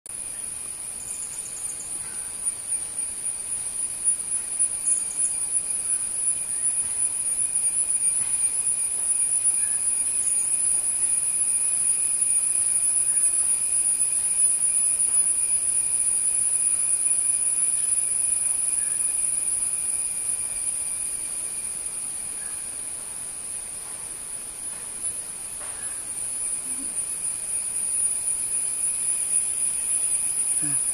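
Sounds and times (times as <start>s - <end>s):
high-pitched insect drone: 0.1s - 30.9s
faint chirps: 0.2s - 23.0s, 24.6s - 30.9s.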